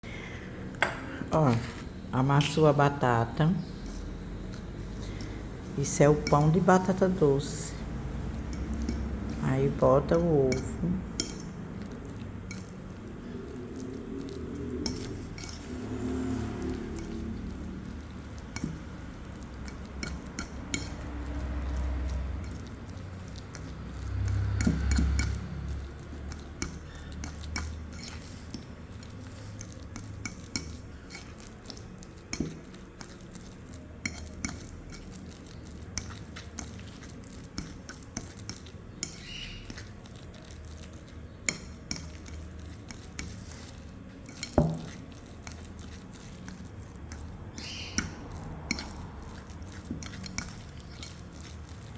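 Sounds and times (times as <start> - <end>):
utensil clinking against bowl: 5.0 - 13.0, 13.8 - 51.9.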